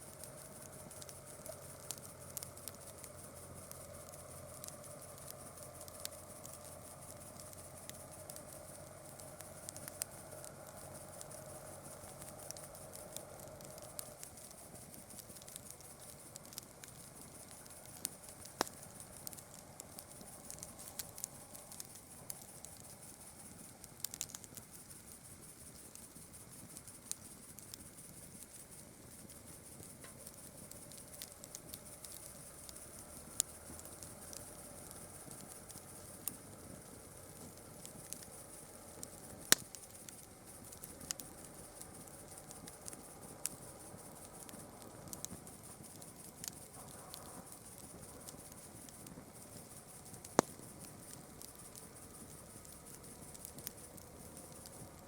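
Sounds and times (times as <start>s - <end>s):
campfire crackling: 0.0s - 55.0s
high-pitched hiss: 0.0s - 55.0s.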